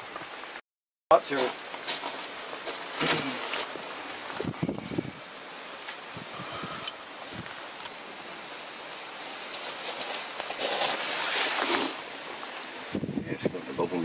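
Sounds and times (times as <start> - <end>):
campfire hissing and crackling: 0.0 - 14.0.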